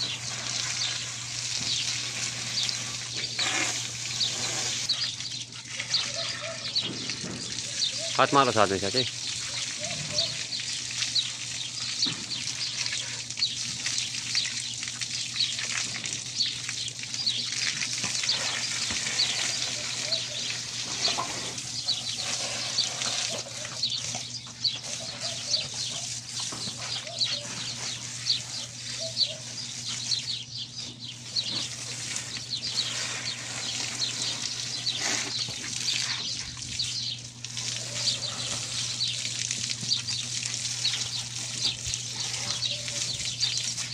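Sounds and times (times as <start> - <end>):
hose water splashing on horse: 0.0 - 43.9
low steady hum: 0.0 - 43.9
small birds chirping: 0.0 - 43.9.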